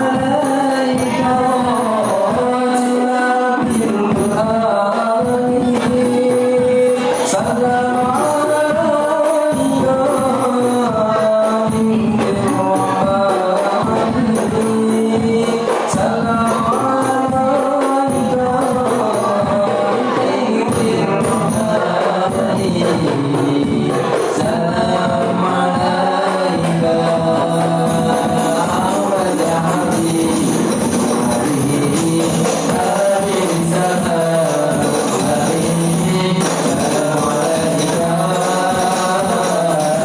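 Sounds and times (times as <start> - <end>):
frame drums playing rhythm: 0.0 - 40.0
voices singing melody: 0.0 - 40.0.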